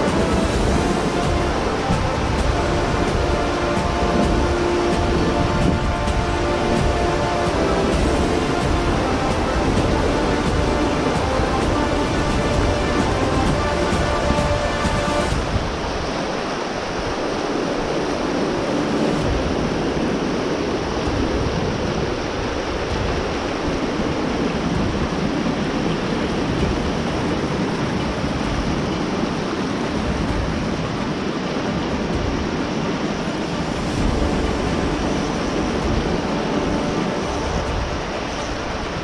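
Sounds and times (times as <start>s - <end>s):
background music: 0.0s - 39.0s
creek rushing over rocks: 0.0s - 39.0s
wind rumbling on microphone: 0.0s - 39.0s.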